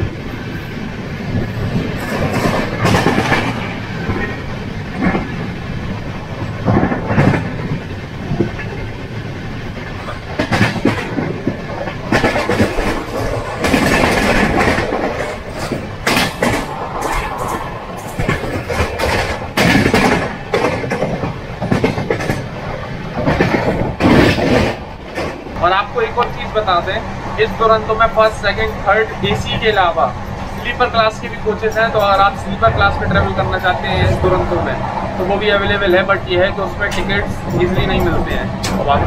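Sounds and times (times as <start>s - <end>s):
train rumble: 0.0s - 39.0s
train wheels clattering over rail joints: 0.0s - 39.0s.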